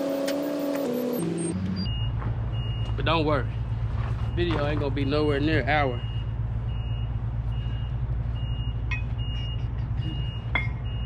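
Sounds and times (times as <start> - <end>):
vehicle backup alarm beeping: 0.0 - 11.0
low engine rumble: 1.6 - 11.0.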